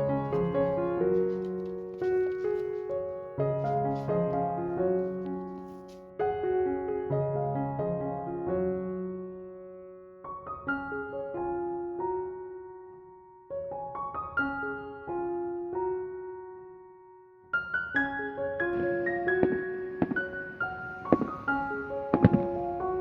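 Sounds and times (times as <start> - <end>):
soft piano chords: 0.0 - 23.0.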